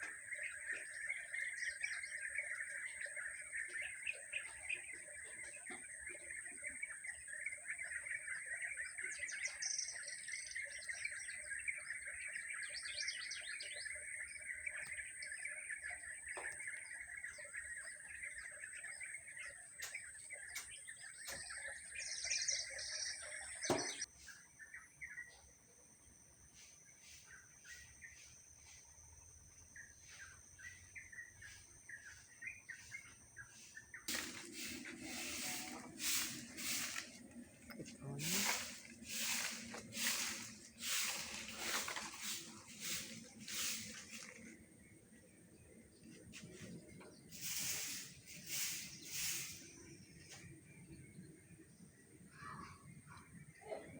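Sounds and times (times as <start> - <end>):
small birds chirping in chorus: 0.0 - 53.9.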